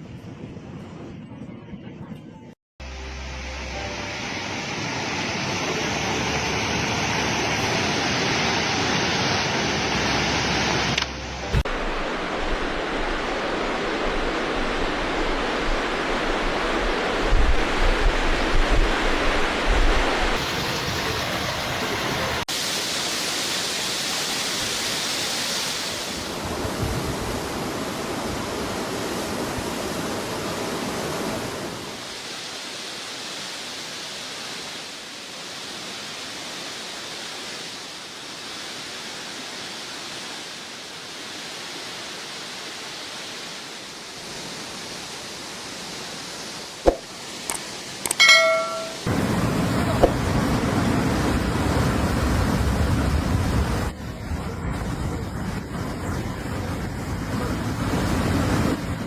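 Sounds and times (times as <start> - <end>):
floodwater rushing: 2.8 - 54.0.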